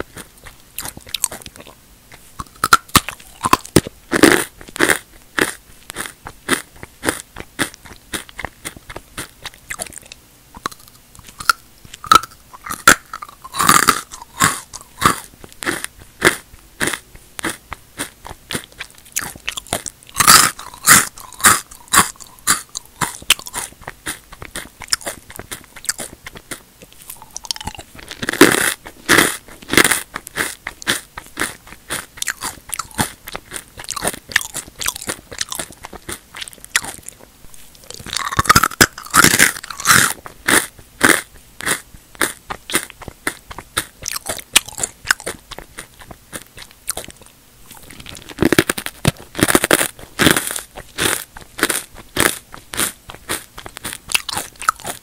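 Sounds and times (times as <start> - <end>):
chips being crunched and chewed: 0.1 - 55.0.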